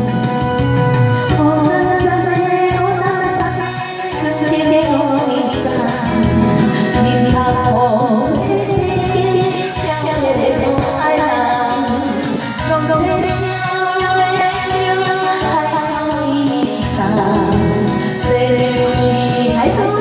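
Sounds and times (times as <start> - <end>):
backing band: 0.0 - 20.0
steady low beat: 1.3 - 18.5
person singing: 1.3 - 20.0.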